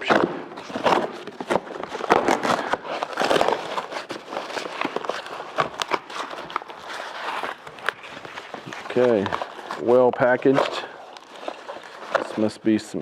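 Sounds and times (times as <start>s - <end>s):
cardboard box rustling and crinkling: 0.0s - 12.6s.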